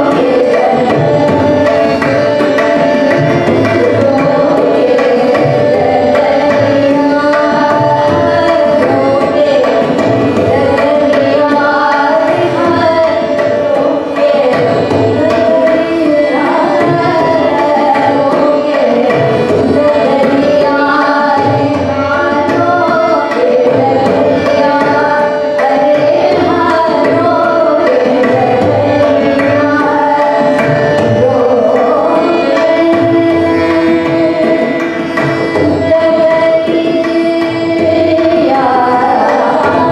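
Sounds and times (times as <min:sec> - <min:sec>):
tabla rhythm: 0:00.0 - 0:39.9
woman singing classical vocals: 0:03.7 - 0:30.6, 0:31.2 - 0:34.8, 0:35.6 - 0:39.9.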